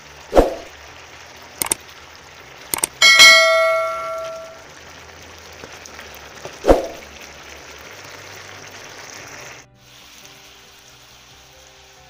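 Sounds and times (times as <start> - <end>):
chicken sizzling in a pan: 0.0 - 12.0
faint music: 0.0 - 12.0.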